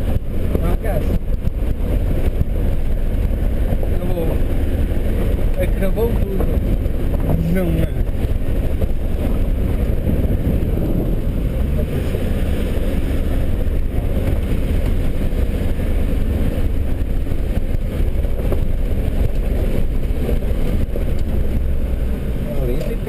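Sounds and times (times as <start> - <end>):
engine and tyres rumbling on dirt: 0.0 - 23.0.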